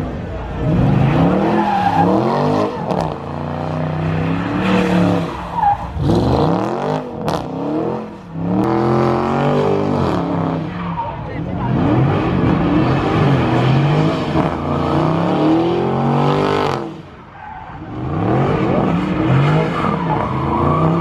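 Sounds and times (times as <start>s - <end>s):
car engine revving hard: 0.6s - 10.7s, 11.6s - 17.0s, 17.8s - 21.0s.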